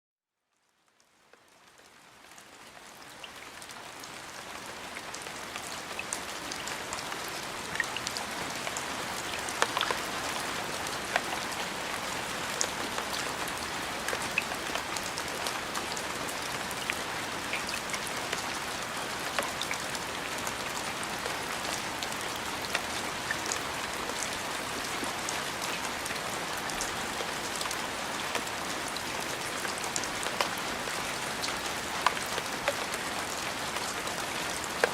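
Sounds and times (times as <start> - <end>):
rain falling: 0.6 - 34.9.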